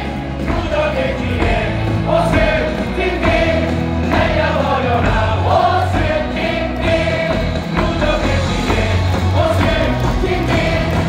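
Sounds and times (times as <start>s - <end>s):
amplified stadium music: 0.0s - 11.0s
crowd singing together: 0.0s - 11.0s.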